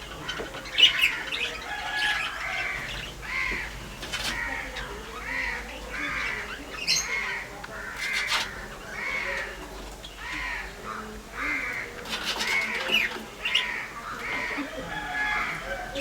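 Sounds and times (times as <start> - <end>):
birds harsh calls: 0.0 - 16.0.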